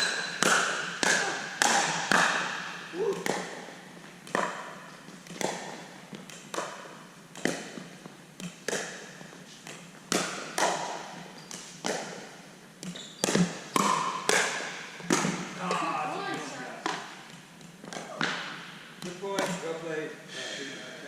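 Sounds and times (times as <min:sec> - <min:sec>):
ball bouncing on court: 0:00.0 - 0:09.0, 0:10.1 - 0:19.7.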